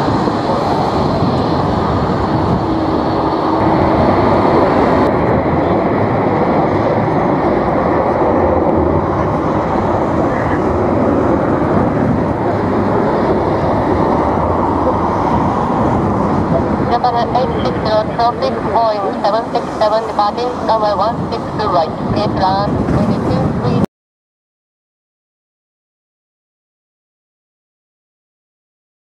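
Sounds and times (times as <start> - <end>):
jet engines running: 0.0 - 23.8
wind on microphone: 0.0 - 23.9.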